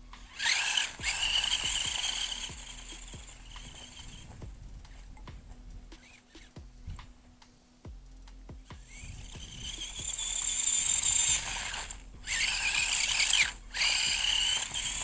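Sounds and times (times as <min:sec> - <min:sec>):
rc car motor whining: 0:00.0 - 0:07.3, 0:08.1 - 0:15.0.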